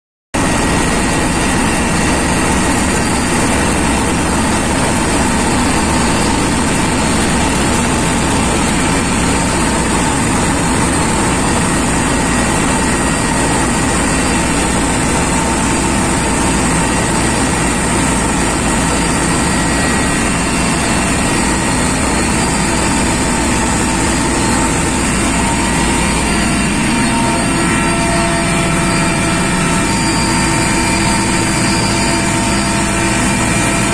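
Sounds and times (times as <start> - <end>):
helicopter engine and rotor drone: 0.4 - 33.9
high whine: 0.4 - 33.9.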